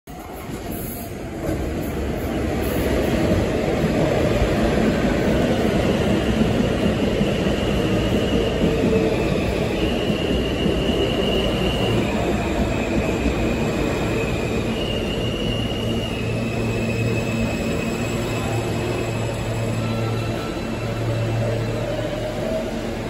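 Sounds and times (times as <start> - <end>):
train wheels rumbling on rails: 0.1 - 23.0.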